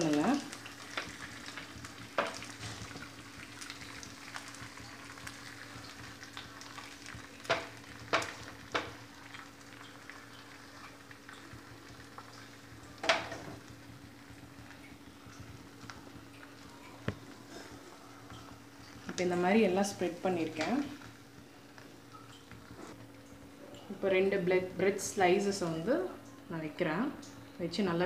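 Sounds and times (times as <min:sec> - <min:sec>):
egg sizzling in oil: 0:00.0 - 0:23.5.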